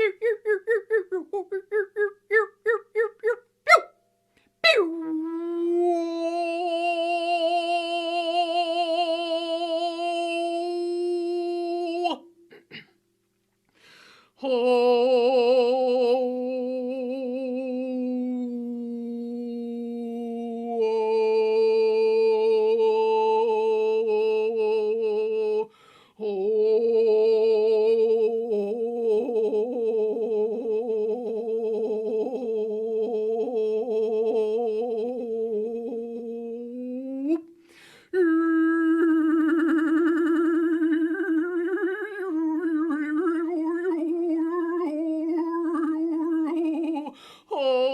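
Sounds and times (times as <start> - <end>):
person toning long sung notes: 0.0 - 3.4, 4.6 - 12.7, 14.4 - 47.9.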